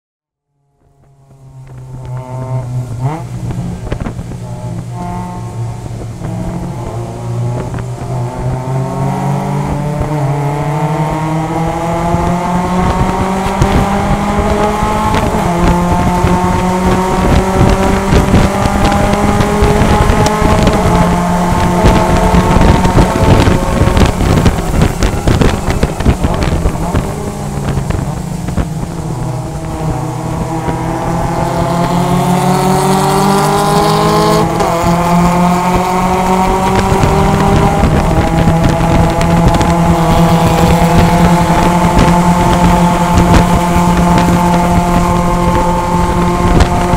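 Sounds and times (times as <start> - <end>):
wind and road noise: 0.4 - 46.9
race car engine revving: 0.6 - 46.9.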